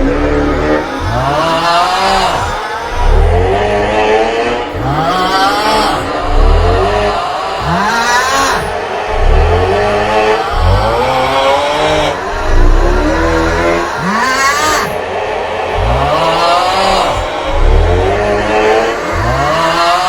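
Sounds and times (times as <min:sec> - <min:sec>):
person groaning snore: 0:00.0 - 0:15.0, 0:15.7 - 0:20.0
heavy low rumble: 0:00.0 - 0:15.1, 0:15.7 - 0:20.0.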